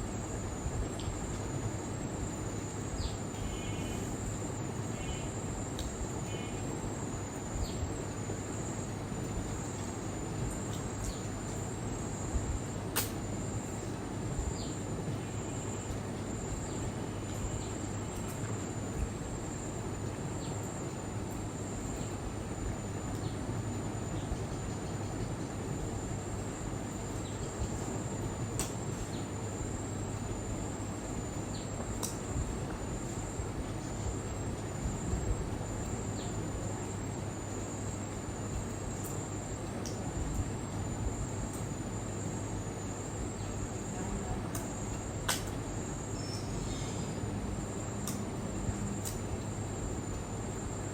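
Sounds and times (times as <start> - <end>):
crickets chirping: 0.0 - 50.9
steady background noise: 0.0 - 50.9.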